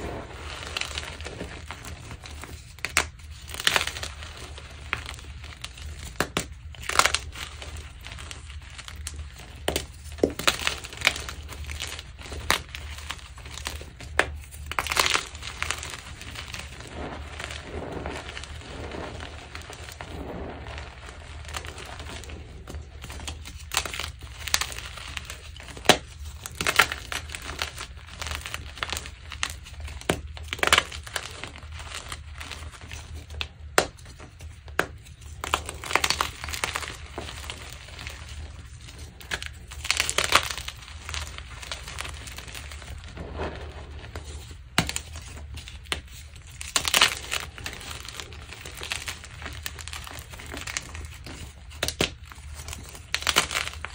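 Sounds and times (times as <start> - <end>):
chalk crunching and crumbling: 0.0 - 53.9.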